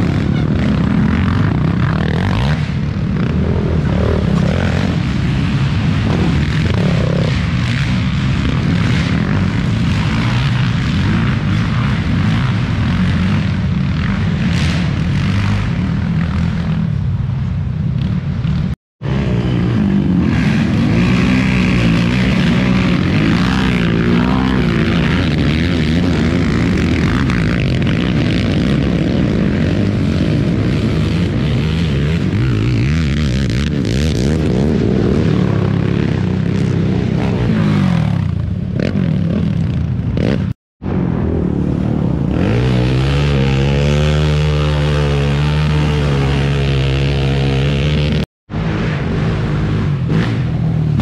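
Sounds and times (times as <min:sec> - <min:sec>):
quad engines revving: 0:00.0 - 0:16.9, 0:18.0 - 0:40.6, 0:41.6 - 0:51.0.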